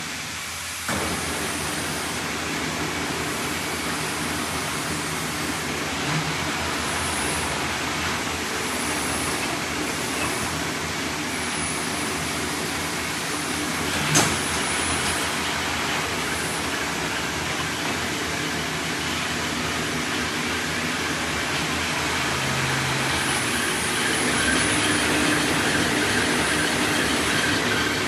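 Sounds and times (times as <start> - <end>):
machine running with hum: 0.9 - 28.0.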